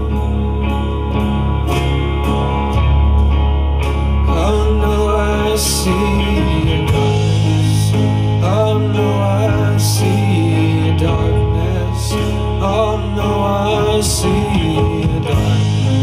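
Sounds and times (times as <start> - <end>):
song with singing and guitar: 0.0 - 16.0.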